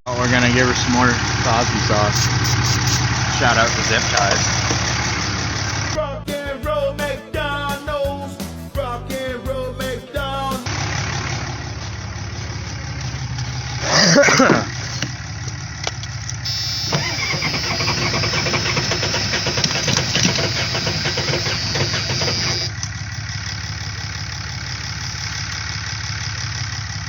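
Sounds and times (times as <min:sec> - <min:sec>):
diesel engine running rough: 0:00.1 - 0:06.0, 0:10.7 - 0:27.0
engine clattering: 0:00.1 - 0:06.0, 0:10.7 - 0:27.0.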